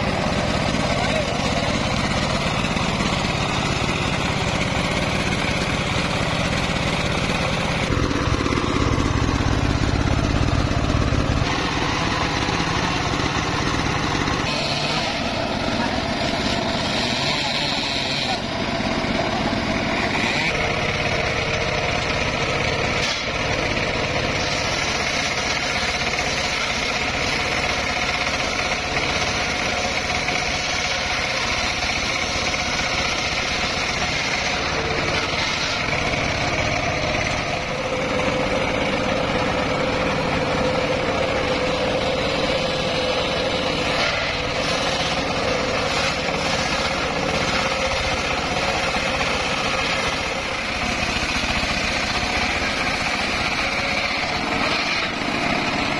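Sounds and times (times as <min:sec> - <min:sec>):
saw blade whining: 0:00.0 - 0:55.9
sawmill engine droning: 0:00.0 - 0:55.9.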